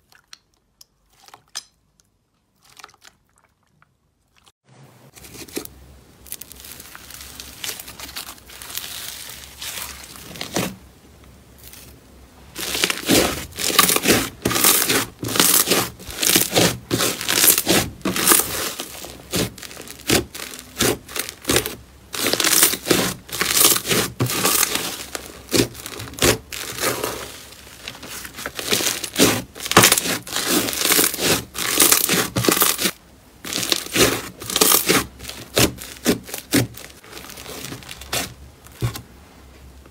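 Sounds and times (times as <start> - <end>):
slime crunching and tearing: 5.2 - 10.8, 12.5 - 39.0.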